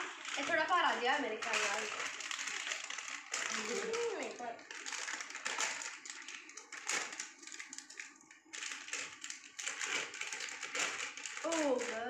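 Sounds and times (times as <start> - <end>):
plastic snack packet crinkling: 0.0 - 12.0.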